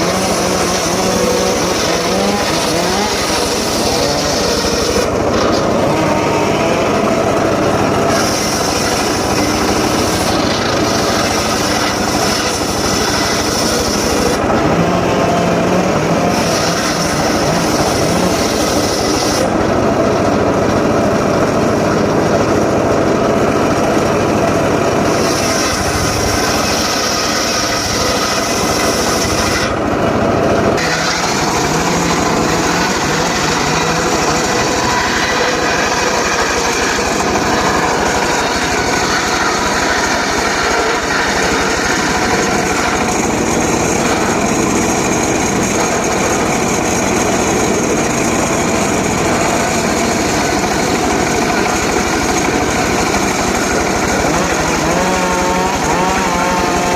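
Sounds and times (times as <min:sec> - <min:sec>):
engine-driven saw cutting wood: 0:00.0 - 0:56.9.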